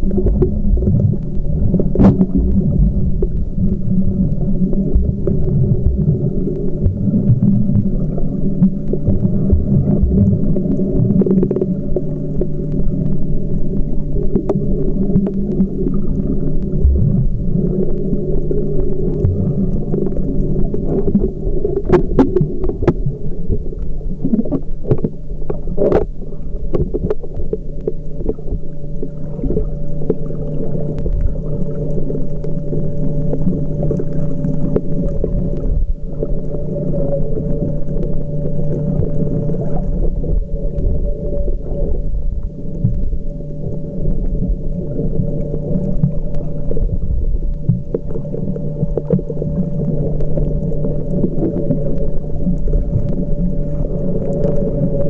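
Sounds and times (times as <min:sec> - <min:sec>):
steady hum: 0:00.0 - 0:55.0
underwater water rumble: 0:00.0 - 0:55.0.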